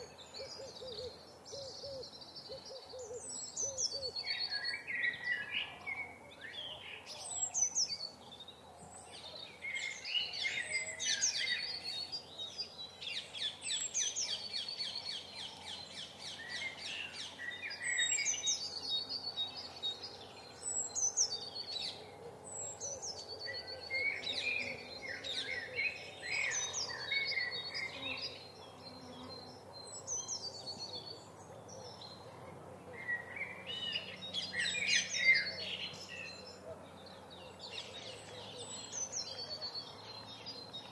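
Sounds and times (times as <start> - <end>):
songbirds chirping and whistling: 0.0 - 40.9.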